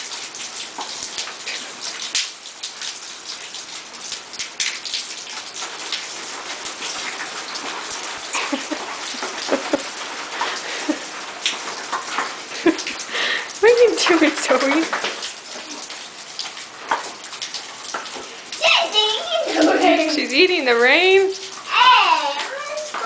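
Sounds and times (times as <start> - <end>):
rain pattering on surfaces: 0.0 - 23.0.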